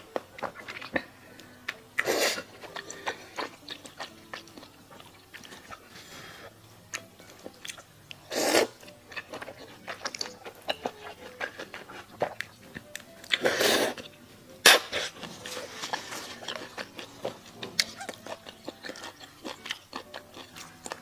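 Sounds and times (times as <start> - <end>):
wet chewing clicks and smacks: 0.0 - 5.8, 8.8 - 21.0.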